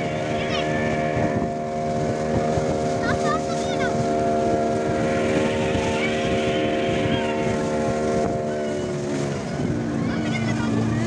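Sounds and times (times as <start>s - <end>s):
motorboat engine running: 0.0s - 11.0s
water rushing along hull: 0.0s - 11.0s
wind on microphone: 0.0s - 11.0s.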